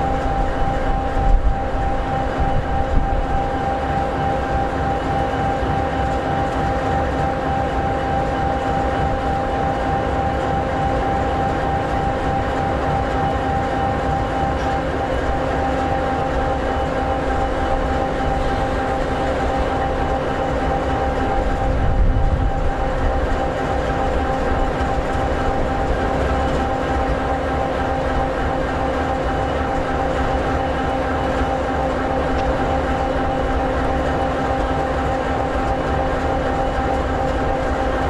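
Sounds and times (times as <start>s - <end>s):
diesel locomotive engine idling: 0.0s - 38.0s.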